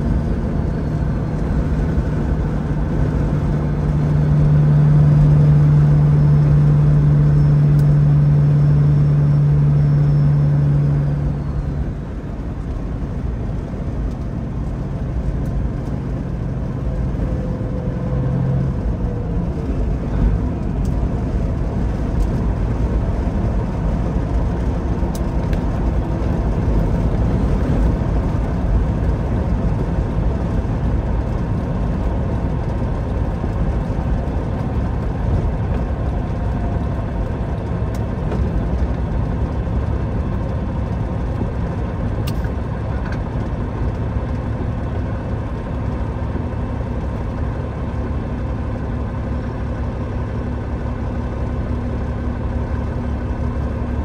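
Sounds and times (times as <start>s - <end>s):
heavy diesel engine drone: 0.0s - 54.0s.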